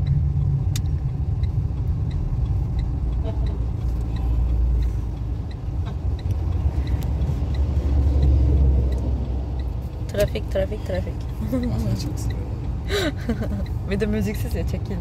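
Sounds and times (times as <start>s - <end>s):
car engine and road rumble: 0.0s - 15.0s
turn signal ticking: 0.0s - 15.0s.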